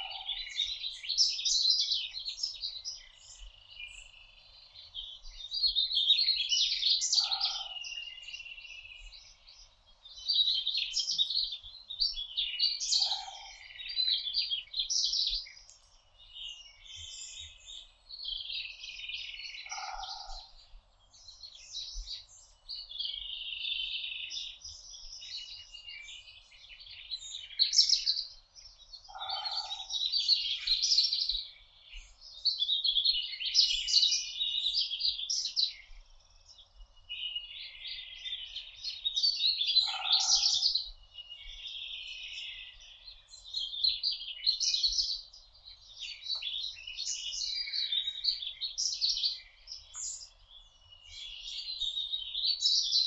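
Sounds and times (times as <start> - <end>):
songbirds singing and chirping: 0.0 - 53.0.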